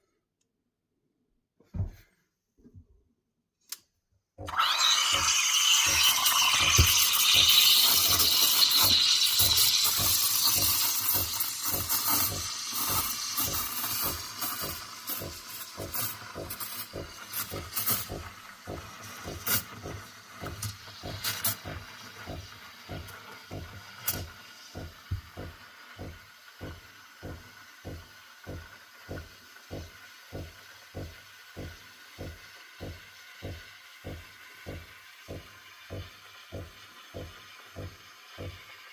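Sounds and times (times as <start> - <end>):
steam wand hissing: 4.5 - 38.9.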